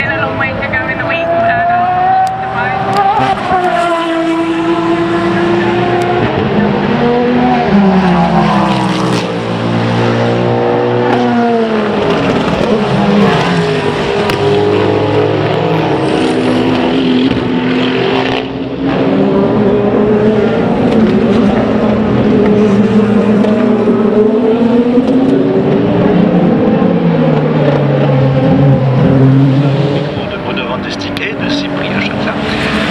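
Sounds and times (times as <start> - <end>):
racing car engines passing: 0.0 - 32.9.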